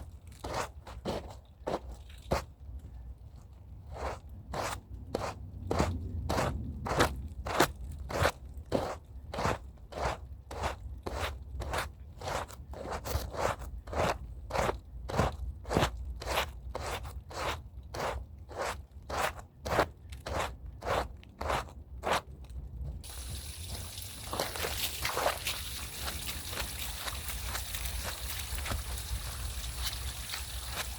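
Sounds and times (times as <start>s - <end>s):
stiff brush scrubbing a rug: 3.8s - 22.3s, 23.0s - 30.9s.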